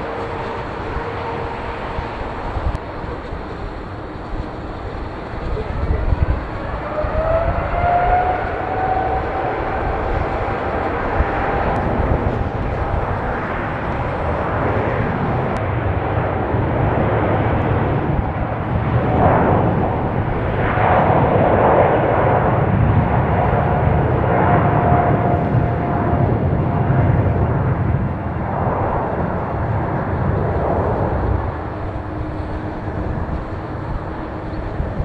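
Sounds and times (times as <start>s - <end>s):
jet engine roar: 0.0s - 35.0s
jet engine whine: 0.0s - 35.0s.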